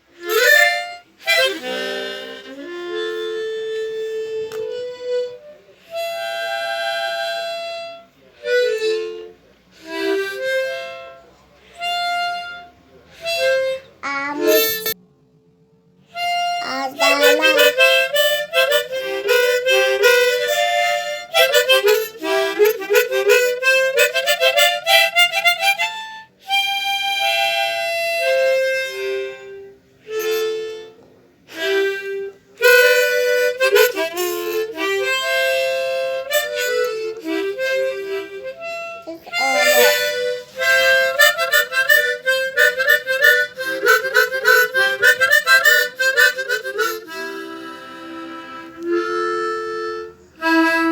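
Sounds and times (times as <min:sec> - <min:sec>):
harmonica playing quick melody: 0:00.1 - 0:15.0, 0:16.2 - 0:50.9.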